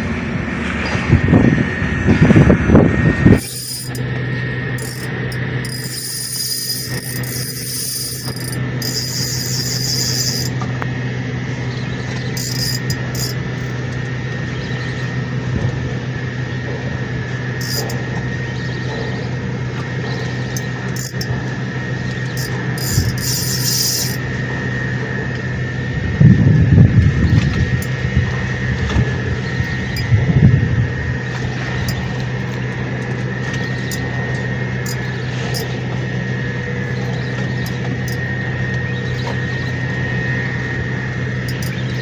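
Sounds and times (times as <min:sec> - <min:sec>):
engine hum: 0:00.0 - 0:42.0.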